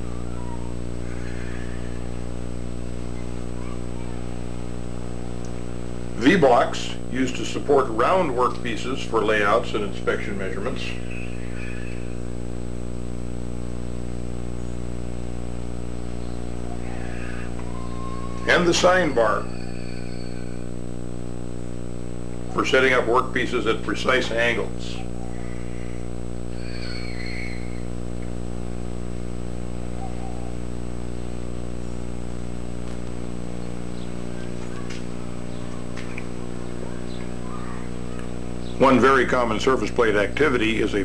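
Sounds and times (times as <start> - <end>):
buzzy electrical hum: 0.0 - 41.0
faint high whine: 0.0 - 41.0.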